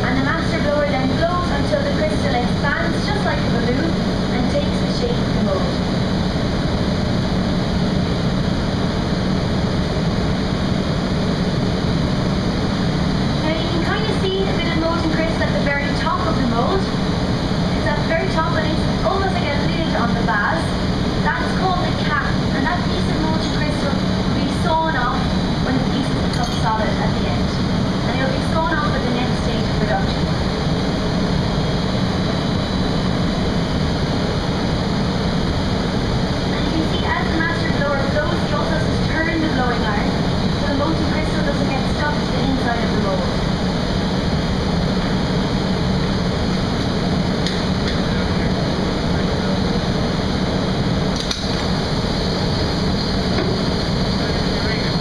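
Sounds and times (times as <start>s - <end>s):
constant low hum: 0.0s - 55.0s
industrial roar: 0.0s - 55.0s
machinery running: 0.0s - 55.0s.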